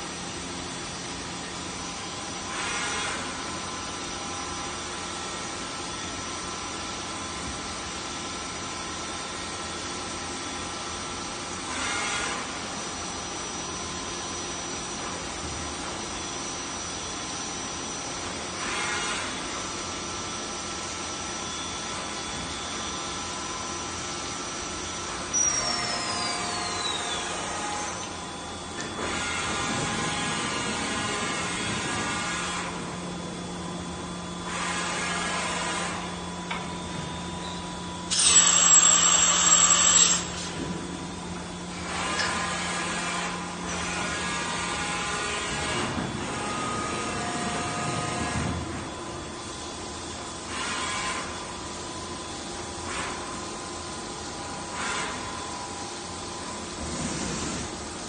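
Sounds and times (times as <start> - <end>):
machine hum and whine: 0.0 - 58.0.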